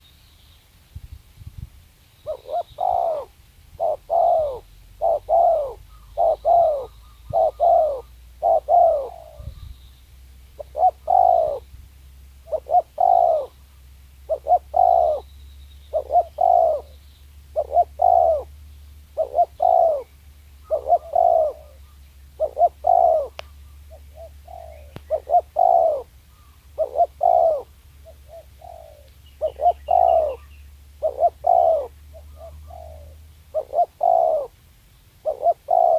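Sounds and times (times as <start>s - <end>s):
dove cooing: 2.2s - 9.8s, 10.5s - 11.7s, 12.4s - 34.6s, 35.2s - 35.9s.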